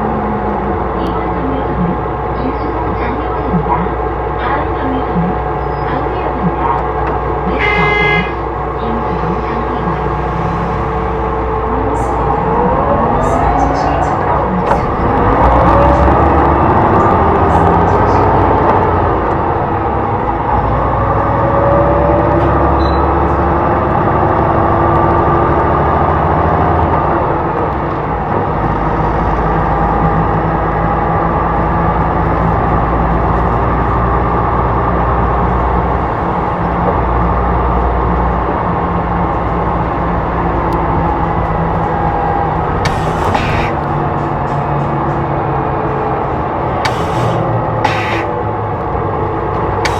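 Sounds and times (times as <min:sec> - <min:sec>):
bus engine droning: 0:00.0 - 0:49.9.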